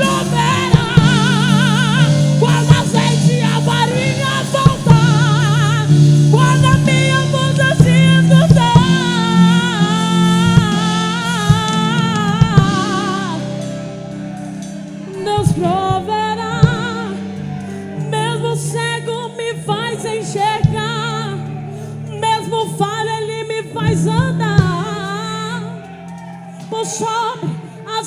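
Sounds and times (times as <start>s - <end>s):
drum kit: 0.0s - 22.9s
keyboard chords: 0.0s - 28.0s
woman singing with vibrato: 0.0s - 28.0s.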